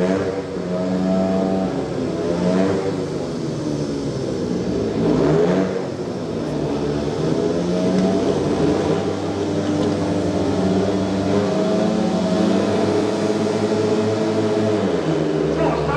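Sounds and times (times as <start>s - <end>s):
motorcycle engines racing: 0.0s - 15.9s.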